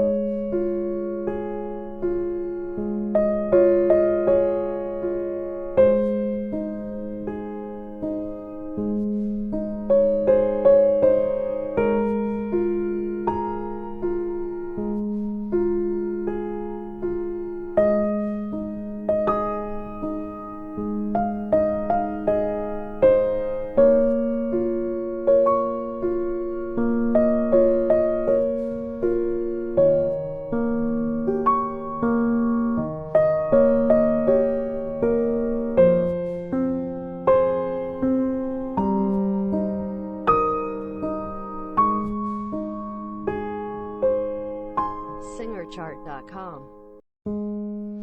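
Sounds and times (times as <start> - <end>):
slow gentle piano music: 0.0 - 48.0.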